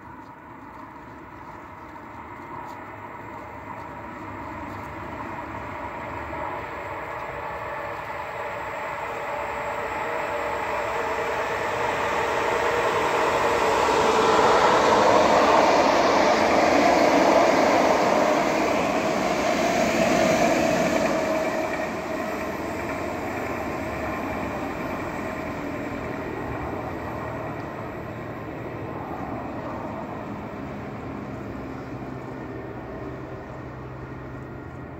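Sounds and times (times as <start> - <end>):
electric train passing: 0.0 - 34.9.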